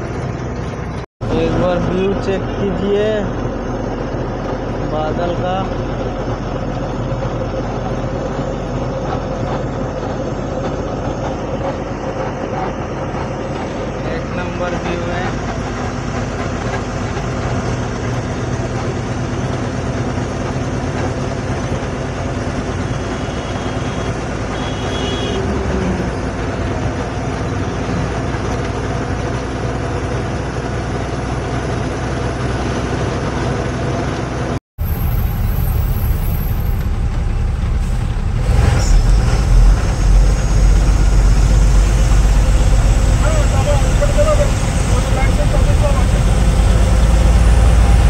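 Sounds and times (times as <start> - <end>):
road noise: 0.0 - 48.0
truck diesel engine drone: 0.0 - 48.0.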